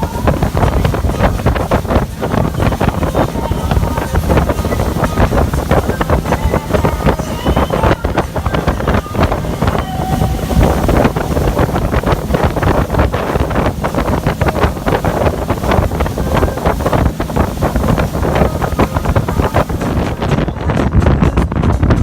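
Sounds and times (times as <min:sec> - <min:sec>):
speedboat engine and hull noise: 0:00.0 - 0:22.0
wind buffeting microphone: 0:00.0 - 0:22.0.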